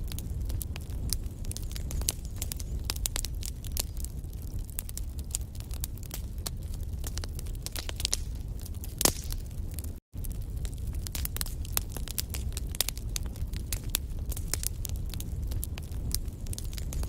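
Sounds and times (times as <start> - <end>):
logs crackling and popping: 0.0 - 17.0
low rumble of flame: 0.0 - 17.0.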